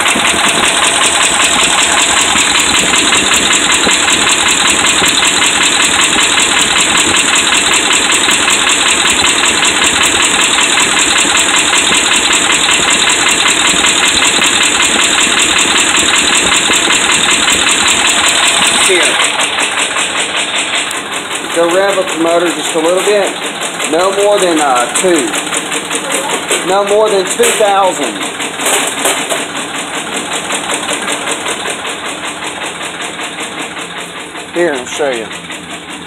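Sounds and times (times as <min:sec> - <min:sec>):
engine idling: 0:00.0 - 0:36.0
fast knock inside engine: 0:00.0 - 0:36.0.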